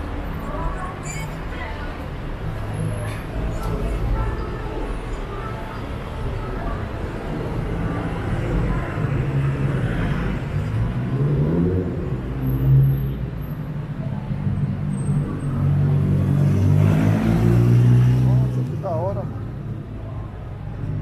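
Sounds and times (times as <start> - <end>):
car engines in street traffic: 0.0 - 21.0.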